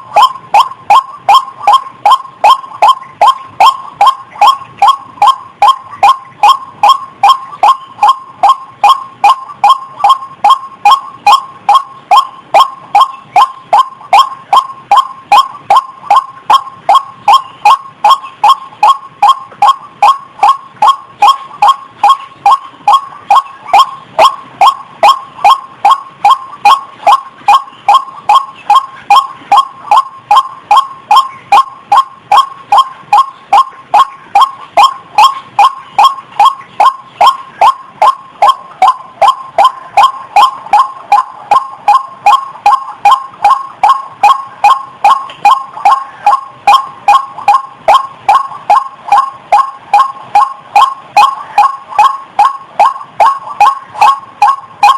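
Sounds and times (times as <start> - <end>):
waterhen calling: 0.0 - 54.9.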